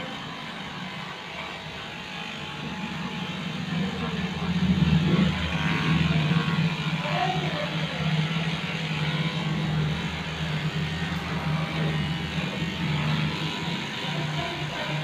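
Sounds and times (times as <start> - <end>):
electric clipper humming: 0.0 - 15.0.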